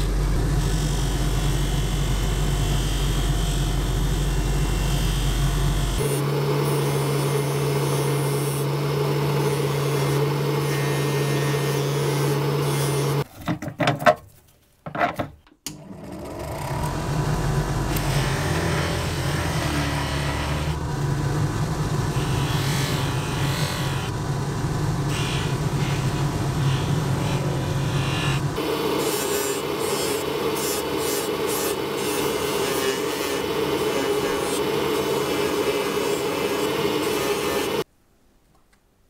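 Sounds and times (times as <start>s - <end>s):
bench polishing motor running: 0.0s - 13.2s, 16.0s - 37.8s.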